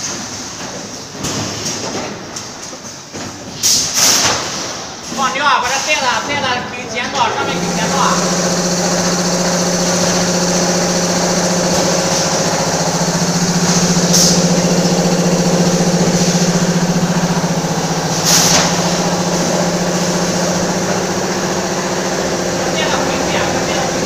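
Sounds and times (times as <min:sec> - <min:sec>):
bagging machine drone and hum: 0:00.0 - 0:24.0.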